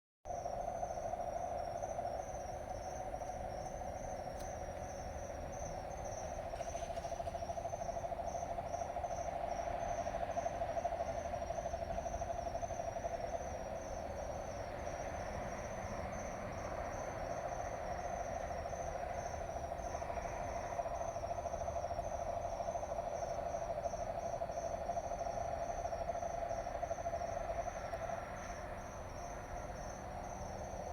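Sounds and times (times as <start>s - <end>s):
crickets chirping: 0.3s - 30.9s.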